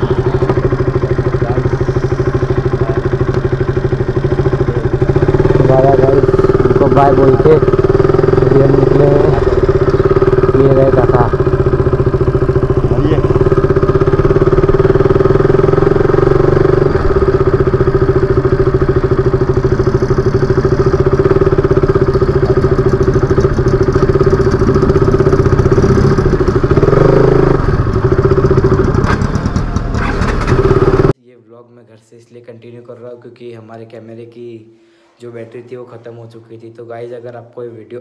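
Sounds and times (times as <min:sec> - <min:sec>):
motorcycle engine running: 0:00.0 - 0:31.2.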